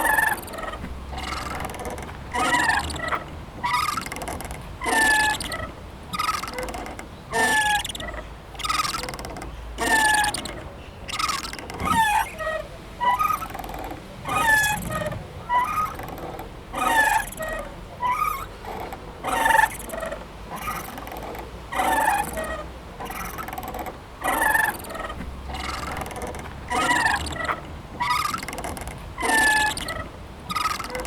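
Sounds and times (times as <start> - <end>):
playground swing squeaking: 0.0 - 31.0.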